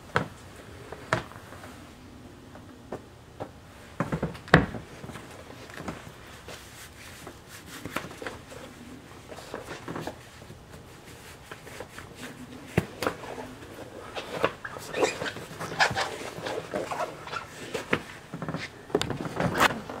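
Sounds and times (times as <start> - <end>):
fabric rustling: 3.8 - 20.0.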